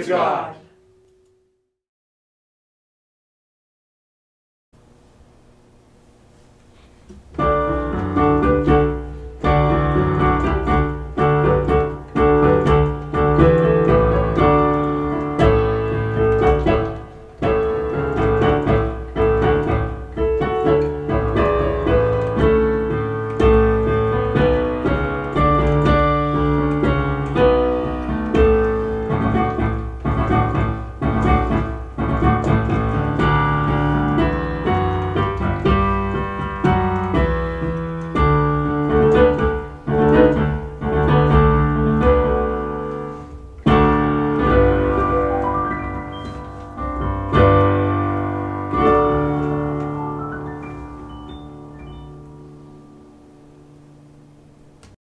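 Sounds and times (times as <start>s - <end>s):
solo piano music: 7.3s - 55.0s.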